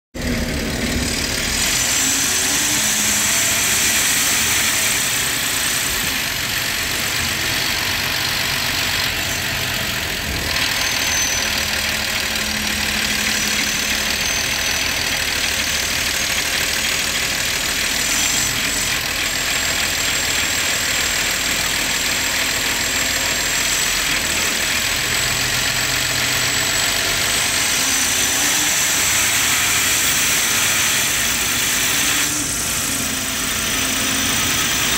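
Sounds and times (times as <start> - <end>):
bus diesel engine running: 0.1 - 34.9.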